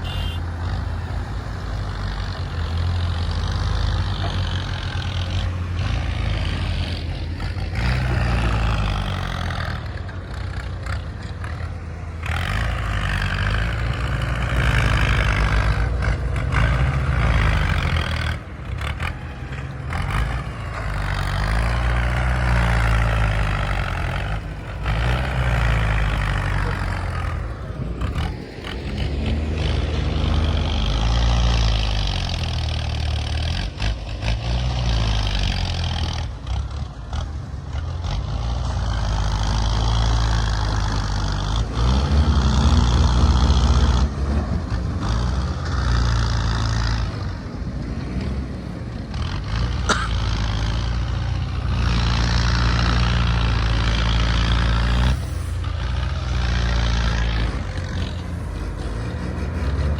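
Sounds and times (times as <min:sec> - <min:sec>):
heavy diesel machinery engine revving: 0:00.0 - 0:59.9.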